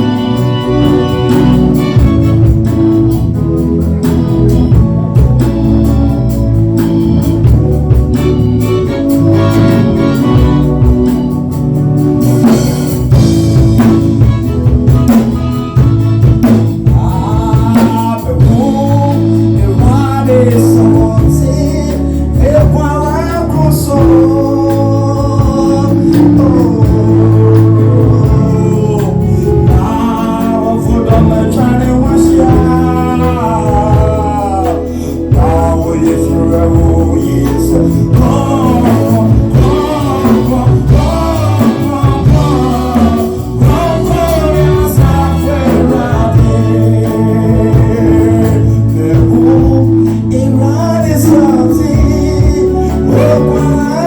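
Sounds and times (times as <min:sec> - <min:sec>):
person singing: 0:00.0 - 0:02.7, 0:13.1 - 0:54.0
gospel band playing: 0:00.0 - 0:54.0.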